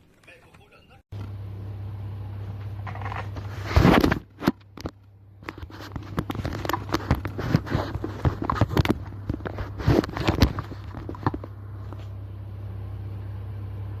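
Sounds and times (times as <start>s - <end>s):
low steady hum: 0.1s - 14.0s.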